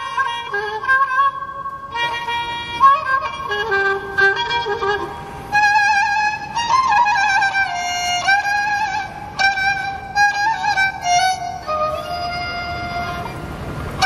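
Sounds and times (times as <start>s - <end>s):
bowed fiddle slow melody: 0.0s - 14.0s.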